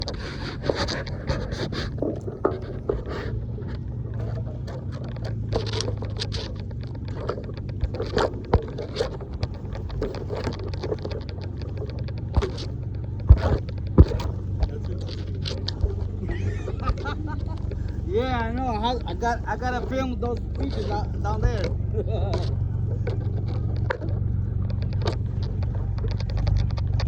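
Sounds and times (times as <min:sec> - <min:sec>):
clicks knocks and splashes: 0:00.0 - 0:18.1, 0:19.0 - 0:27.0
seawater sloshing among pilings: 0:00.0 - 0:27.0
steady low hum: 0:00.0 - 0:27.0.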